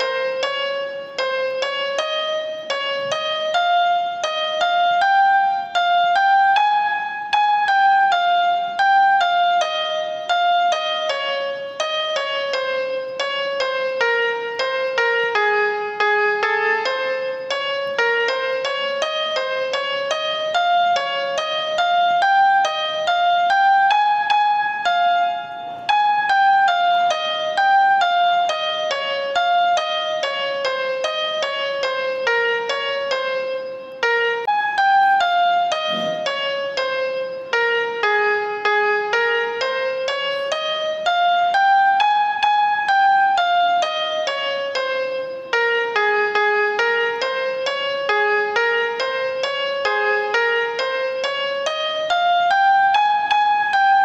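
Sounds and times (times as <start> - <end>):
keyboard music: 0.0 - 54.0.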